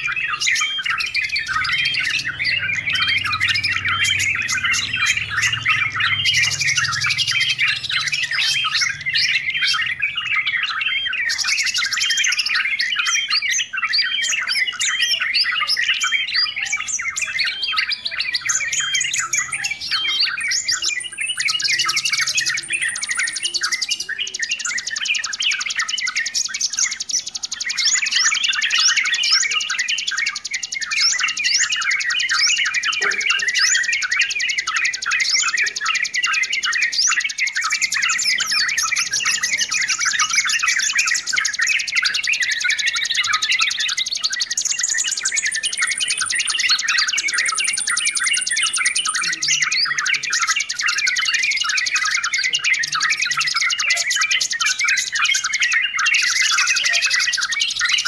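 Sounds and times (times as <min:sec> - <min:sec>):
birds chattering chorus: 0:00.0 - 0:58.0.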